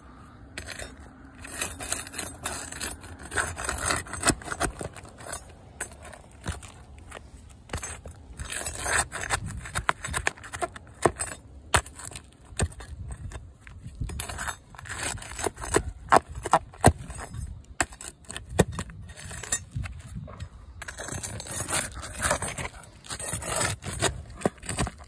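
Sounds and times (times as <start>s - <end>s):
pry bar scraping under shingle: 0.0s - 25.0s.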